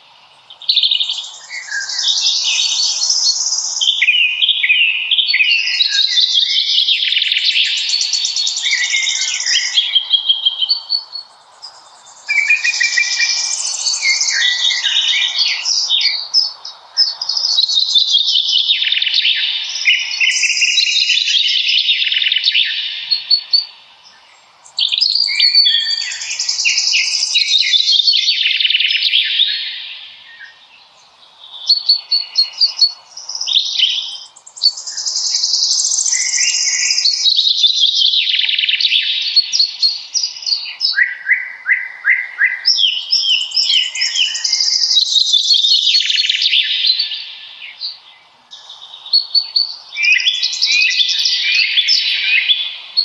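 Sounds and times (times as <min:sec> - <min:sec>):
songbirds warbling: 0:00.0 - 0:53.0.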